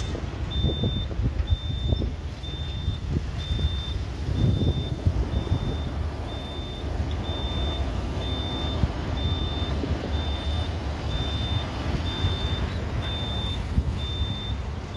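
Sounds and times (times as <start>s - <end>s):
reversing alarm beeping: 0.0s - 14.9s
steady low rumble: 0.0s - 14.9s.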